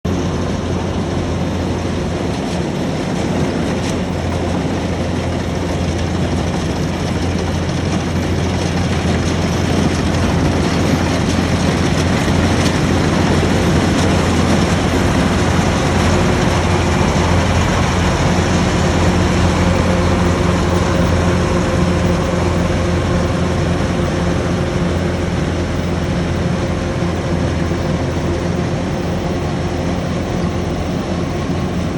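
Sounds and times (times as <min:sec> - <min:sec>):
combine harvester engine drone: 0:00.0 - 0:31.9.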